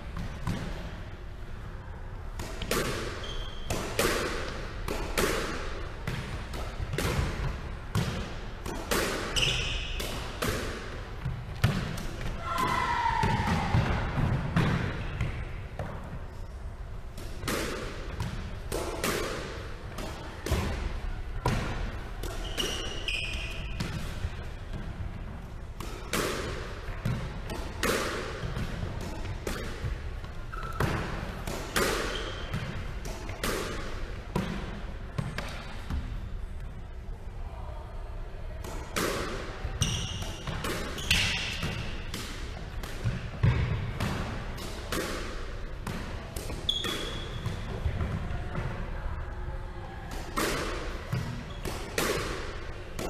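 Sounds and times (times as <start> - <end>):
squash ball hits: 2.3 - 16.0, 17.2 - 24.9, 25.8 - 36.0, 38.6 - 48.7, 50.1 - 53.0.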